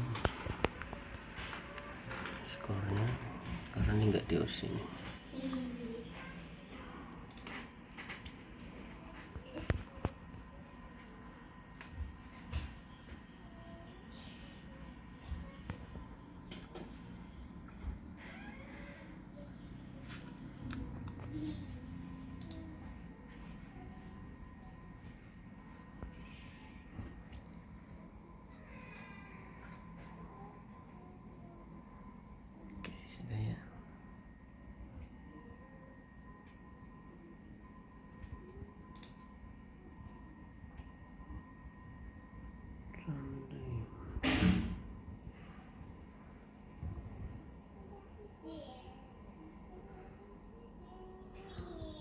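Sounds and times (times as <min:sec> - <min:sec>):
cricket chirping: 0:00.0 - 0:52.0
low steady hum: 0:00.0 - 0:52.0.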